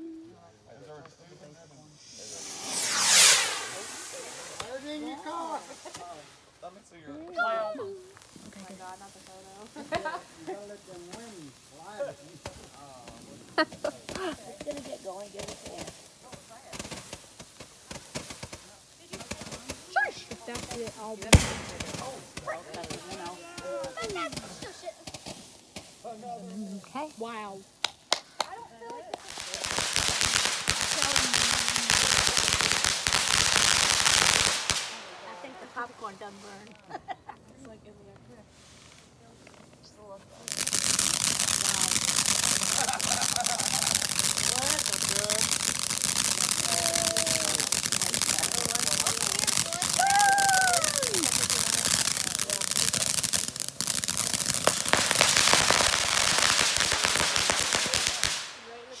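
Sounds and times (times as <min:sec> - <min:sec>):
firework crackling hiss: 0:00.0 - 0:37.2, 0:38.2 - 0:59.0.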